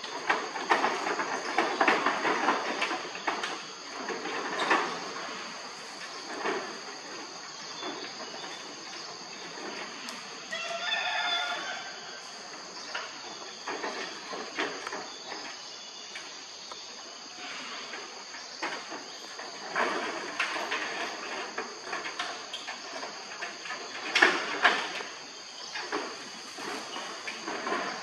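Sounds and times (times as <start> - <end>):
insect chorus: 0.0 - 28.0
rustling and scraping: 0.0 - 28.0.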